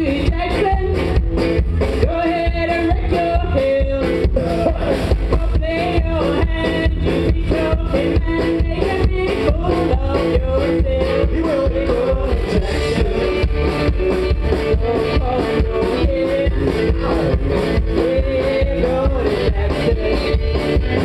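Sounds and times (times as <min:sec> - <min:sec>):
woman singing: 0:00.0 - 0:01.2, 0:02.0 - 0:04.1, 0:05.3 - 0:20.7
country-rock band playing: 0:00.0 - 0:21.0.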